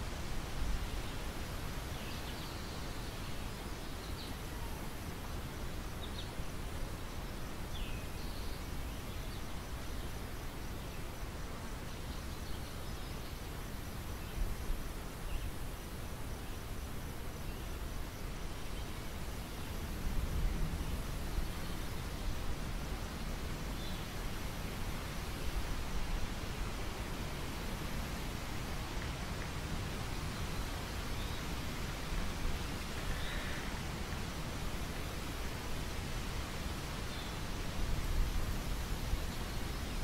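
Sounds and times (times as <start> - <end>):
wind: 0.0 - 40.0.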